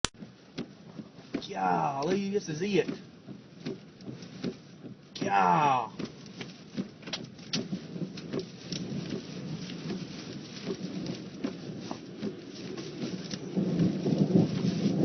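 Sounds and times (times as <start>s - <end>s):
heavy rain drops tapping: 0.1s - 15.0s
low rumble of wind: 0.1s - 15.0s.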